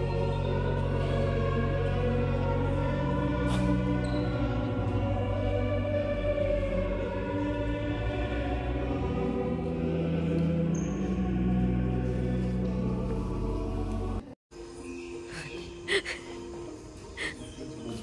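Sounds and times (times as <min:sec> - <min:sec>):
choral singing with held notes: 0:00.0 - 0:16.0.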